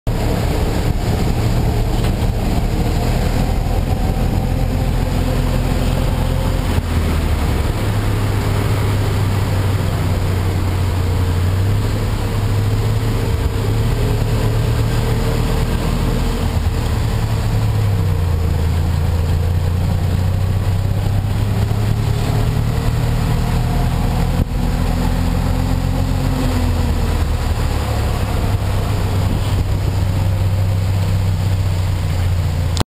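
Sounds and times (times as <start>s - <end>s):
auto rickshaw engine running: 0.0s - 32.9s.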